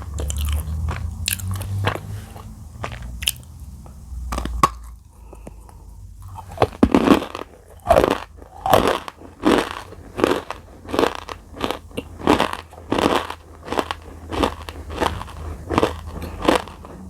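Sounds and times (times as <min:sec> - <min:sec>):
person chewing crunchy clay: 0:00.0 - 0:17.0.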